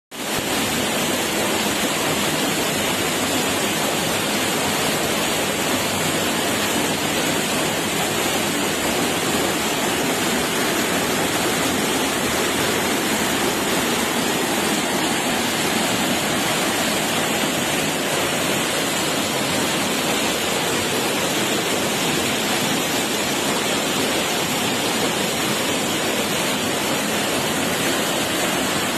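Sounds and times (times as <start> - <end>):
waterfall roaring: 0.2 - 28.9.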